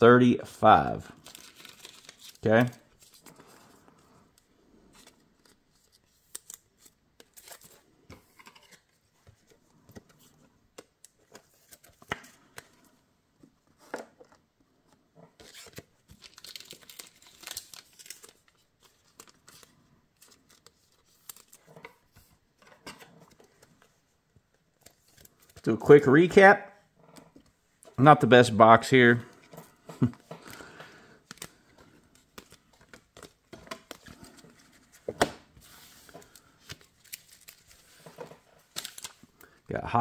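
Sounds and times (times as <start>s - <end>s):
cards rustling: 1.0s - 12.9s, 13.6s - 26.4s, 27.2s - 39.6s.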